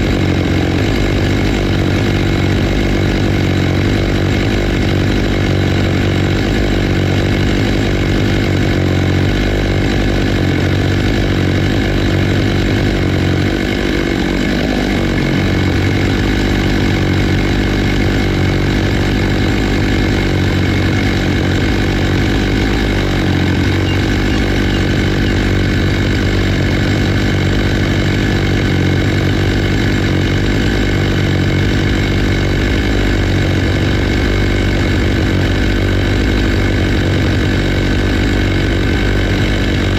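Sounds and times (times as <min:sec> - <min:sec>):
chainsaw running steadily: 0:00.0 - 0:39.9.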